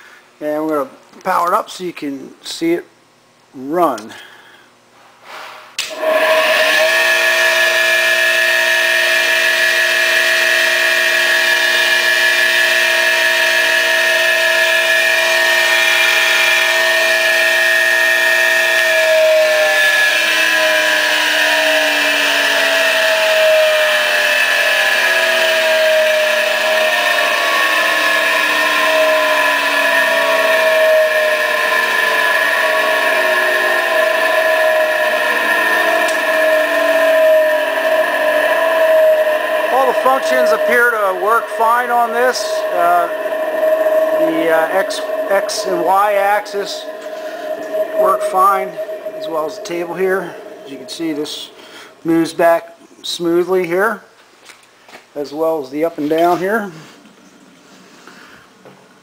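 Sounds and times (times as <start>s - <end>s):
bench grinder whining: 5.8s - 53.8s.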